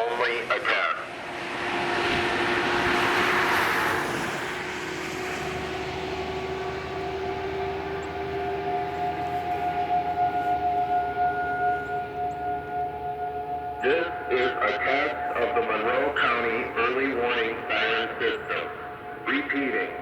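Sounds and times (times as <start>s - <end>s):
outdoor warning sirens: 0.0s - 20.0s
passing vehicle road noise: 0.0s - 20.0s.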